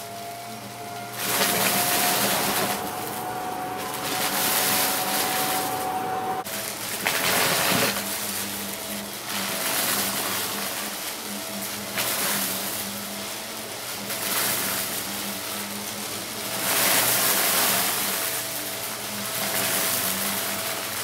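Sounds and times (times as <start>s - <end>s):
vacuum cleaner motor whine: 0.0s - 21.0s
vacuum sucking up crunchy debris: 0.2s - 21.0s.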